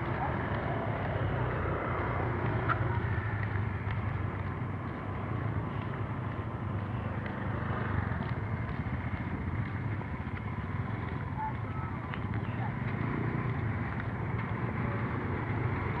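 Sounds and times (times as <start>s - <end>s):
traffic engines humming: 0.0s - 16.0s.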